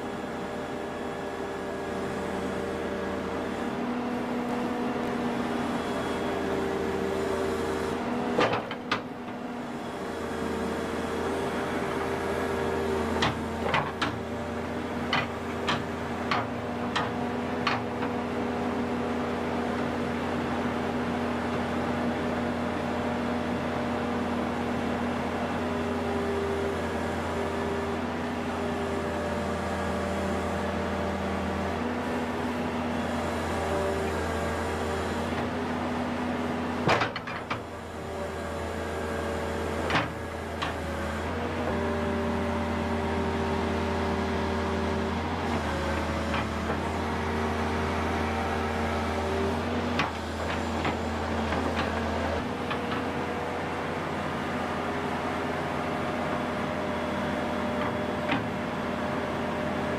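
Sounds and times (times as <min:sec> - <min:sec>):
excavator engine droning: 0:00.0 - 0:59.9.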